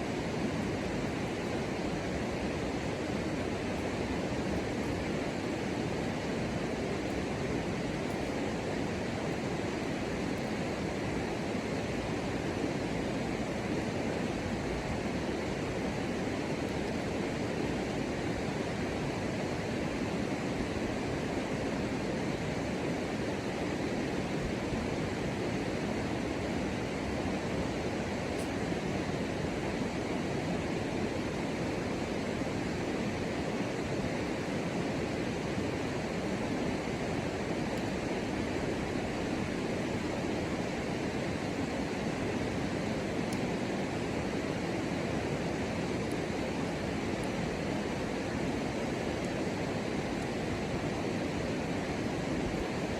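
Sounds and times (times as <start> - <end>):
outdoor ambience rushing noise: 0.0 - 52.9.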